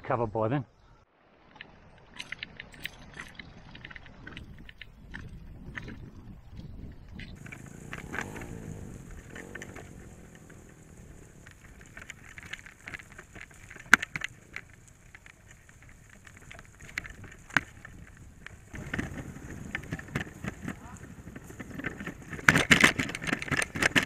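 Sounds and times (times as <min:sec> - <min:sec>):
bicycle trailer rattling: 0:02.2 - 0:24.0.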